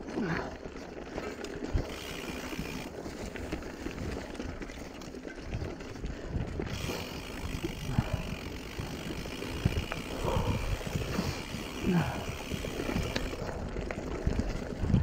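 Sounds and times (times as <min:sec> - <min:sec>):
bike rattling and knocking: 0:00.0 - 0:15.0
bike tyres on dirt and stones: 0:00.0 - 0:15.0.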